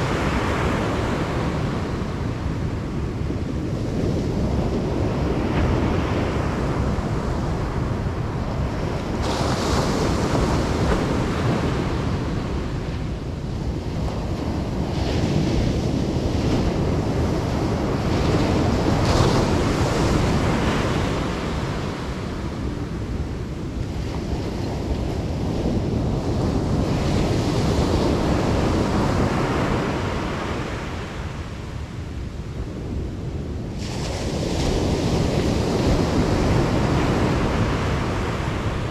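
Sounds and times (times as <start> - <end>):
ocean surf washing on beach: 0.0 - 38.9
wind rumbling on microphone: 0.0 - 38.9.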